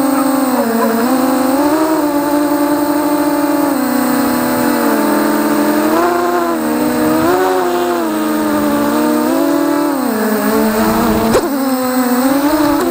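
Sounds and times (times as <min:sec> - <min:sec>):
quadcopter motors whining: 0:00.0 - 0:12.9.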